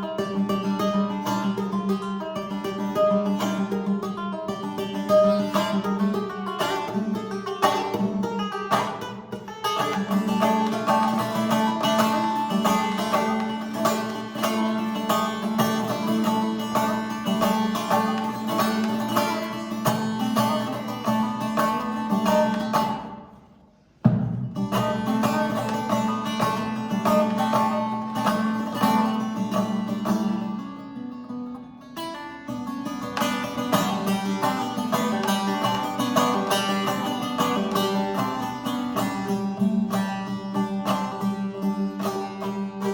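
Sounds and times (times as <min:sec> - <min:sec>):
plucked strings music: 0:00.0 - 0:42.9.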